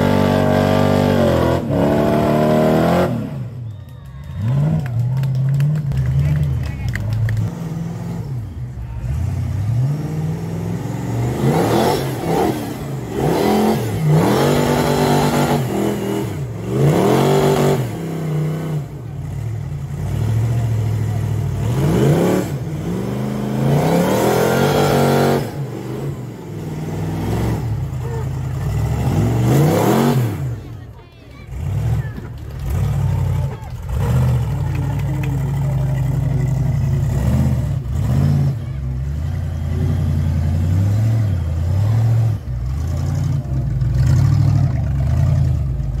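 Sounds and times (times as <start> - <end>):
buggy engine revving hard: 0.0 - 3.6, 7.3 - 46.0.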